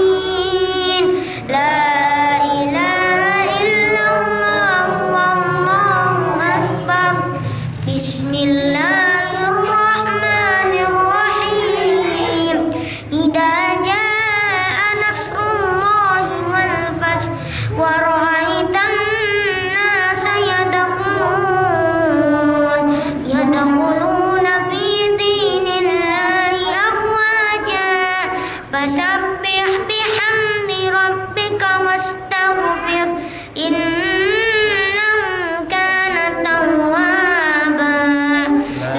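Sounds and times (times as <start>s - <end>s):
boy chanting into a microphone: 0.0s - 38.9s.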